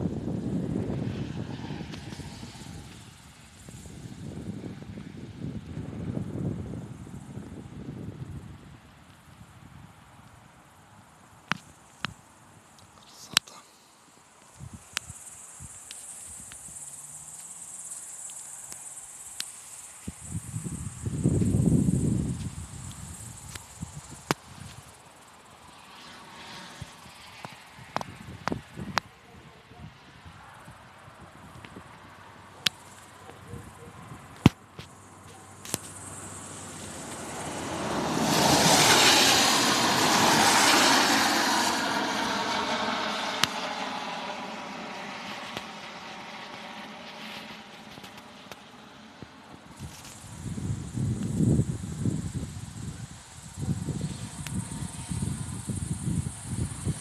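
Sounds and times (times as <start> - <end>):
crickets chirring: 0.0 - 57.0
car tyres hissing on wet road: 0.1 - 12.0, 13.5 - 29.0, 34.9 - 57.0.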